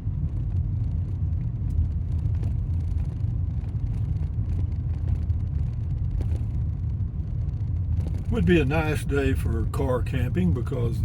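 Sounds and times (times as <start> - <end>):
vehicle interior rumble: 0.0 - 11.0.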